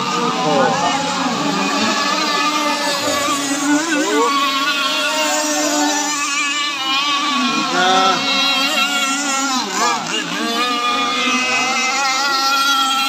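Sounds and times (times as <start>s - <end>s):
model powerboat engines racing: 0.0s - 13.0s.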